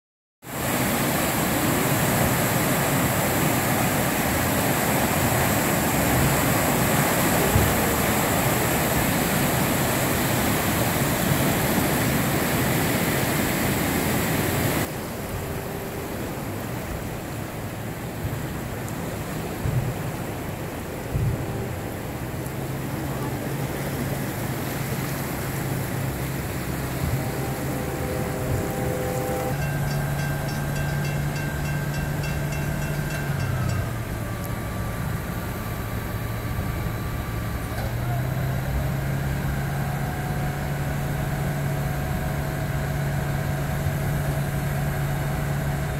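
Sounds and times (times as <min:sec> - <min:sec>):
floodwater rushing under bridge: 0:00.4 - 0:45.9.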